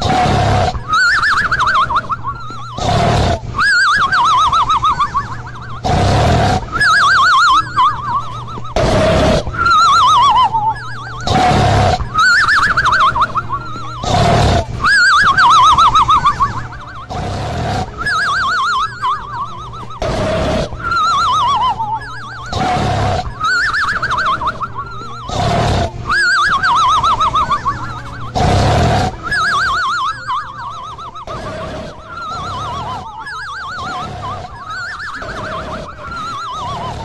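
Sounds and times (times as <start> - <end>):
snoring with falling whistle: 0.0 - 37.0.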